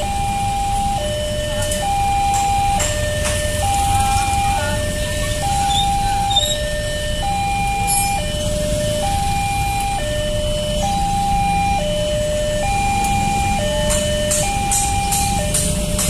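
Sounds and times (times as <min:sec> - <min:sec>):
idling traffic rumble: 0:00.0 - 0:16.0
two-tone crossing alarm: 0:00.0 - 0:16.0.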